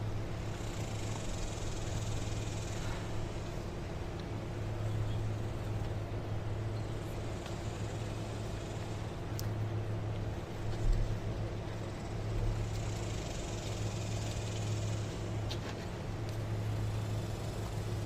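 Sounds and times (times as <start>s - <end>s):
low engine drone: 0.0s - 18.0s.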